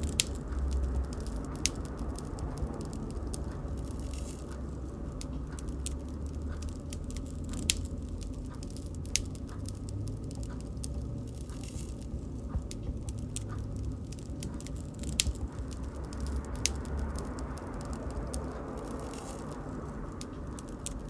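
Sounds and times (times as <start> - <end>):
bonfire crackling: 0.0 - 21.0.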